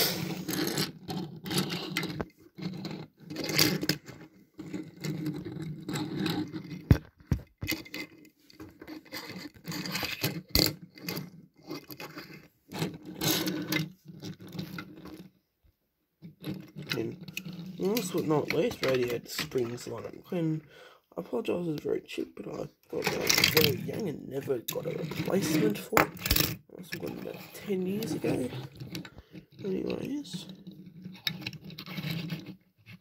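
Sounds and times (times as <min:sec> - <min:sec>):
metal toy cars scraping on wood: 0:00.0 - 0:15.3, 0:16.4 - 0:20.6, 0:22.4 - 0:33.0.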